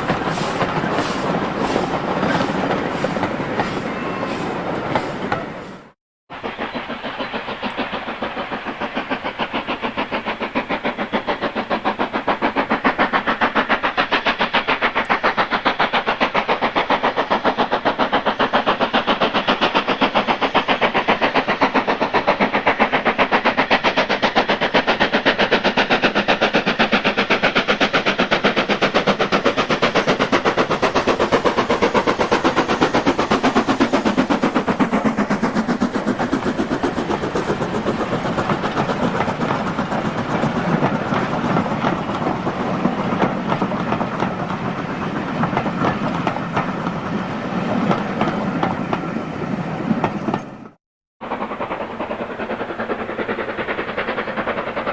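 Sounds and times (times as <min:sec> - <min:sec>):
steam locomotive exhaust beats: 0:00.0 - 0:54.9
steam locomotive passing: 0:00.0 - 0:54.9.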